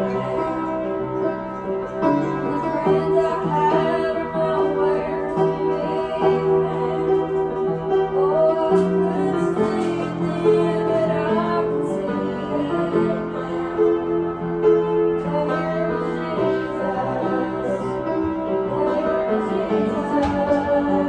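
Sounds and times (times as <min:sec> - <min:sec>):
woman singing: 0:00.0 - 0:01.4, 0:02.0 - 0:21.0
instrumental accompaniment: 0:00.0 - 0:21.0.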